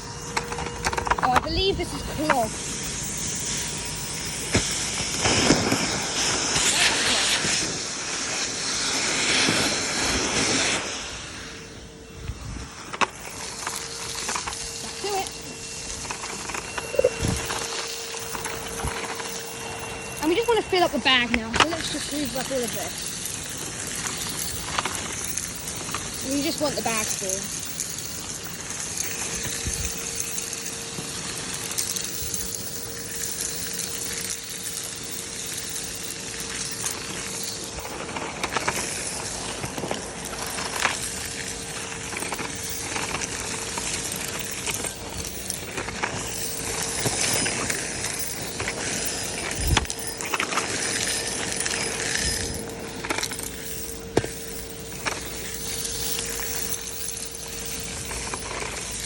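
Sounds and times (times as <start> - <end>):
debris clinking through pole: 0.0 - 7.7, 12.4 - 59.0
vacuum cleaner humming: 0.0 - 59.0.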